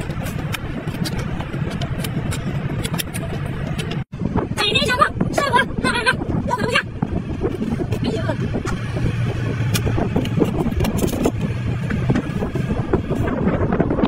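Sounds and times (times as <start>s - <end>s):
low motor rumble: 0.0s - 14.0s.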